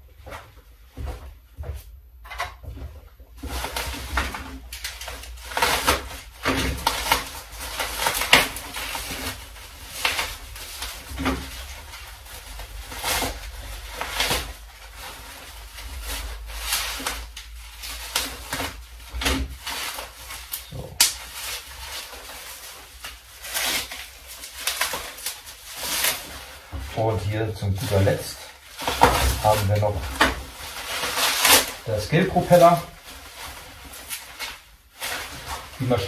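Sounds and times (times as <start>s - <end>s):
plastic wrap crinkling: 3.3s - 36.0s.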